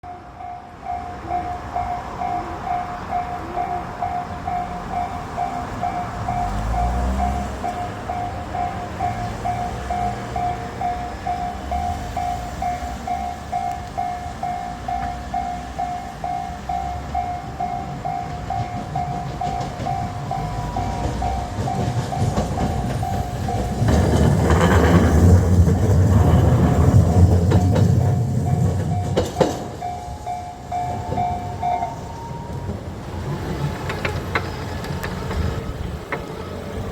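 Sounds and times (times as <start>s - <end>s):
level-crossing warning bell: 0.0s - 36.9s
tram wheels rumbling: 0.1s - 36.9s
wheels clicking over rails: 4.5s - 36.9s.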